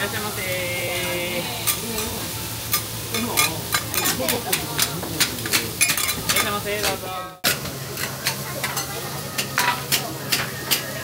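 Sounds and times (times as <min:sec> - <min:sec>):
pancakes sizzling: 0:00.0 - 0:11.0.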